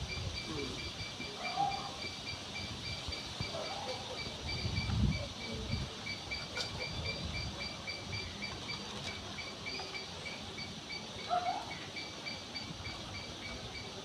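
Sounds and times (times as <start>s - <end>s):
insect chirping rapidly: 0.0s - 14.0s.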